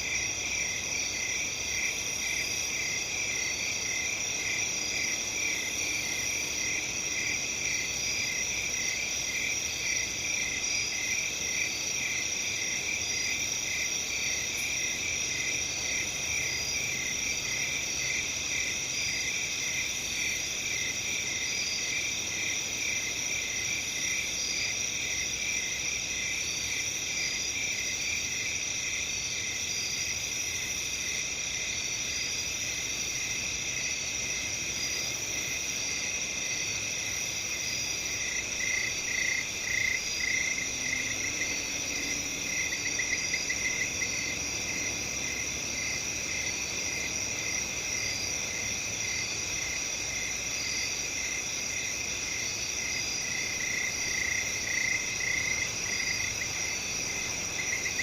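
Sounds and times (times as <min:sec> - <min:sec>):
chorus of crickets chirping: 0:00.0 - 0:58.0
nearer cricket chirping louder: 0:00.0 - 0:58.0.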